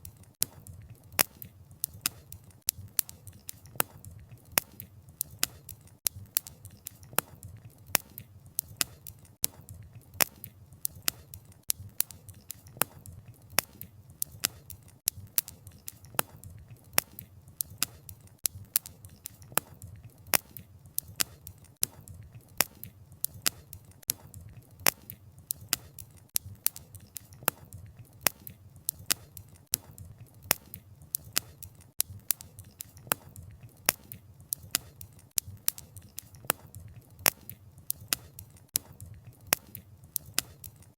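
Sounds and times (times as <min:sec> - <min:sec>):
firewood snapping and popping: 0:00.0 - 0:40.9.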